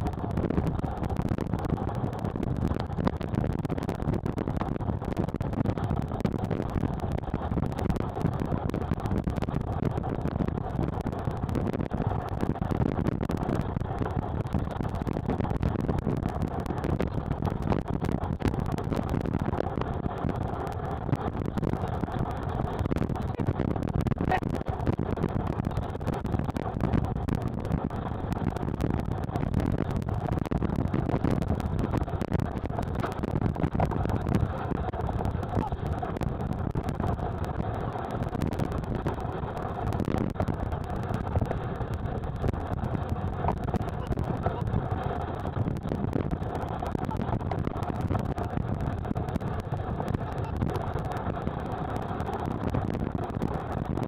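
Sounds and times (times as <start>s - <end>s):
sped-up sled and wind rush: 0.0s - 54.0s.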